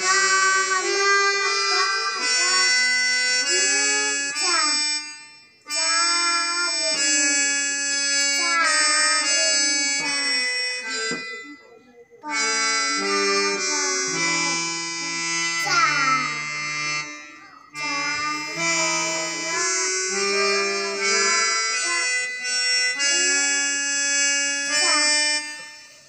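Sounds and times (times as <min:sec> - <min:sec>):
electronic keyboard melody: 0:00.0 - 0:26.0.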